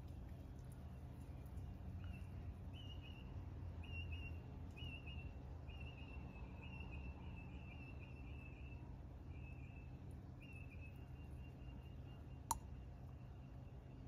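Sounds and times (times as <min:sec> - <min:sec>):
bird calling with whistled notes: 0:02.0 - 0:14.0.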